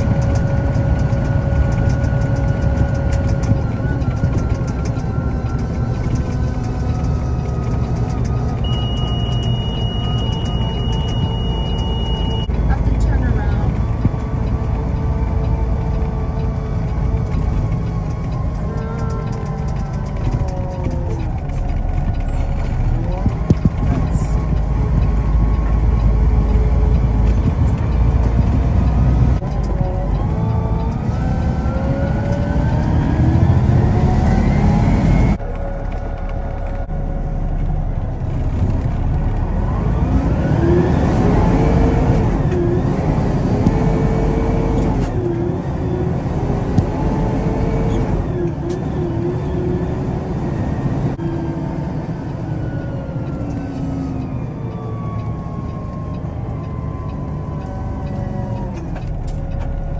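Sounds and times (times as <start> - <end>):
diesel truck engine accelerating: 0.0 - 59.9.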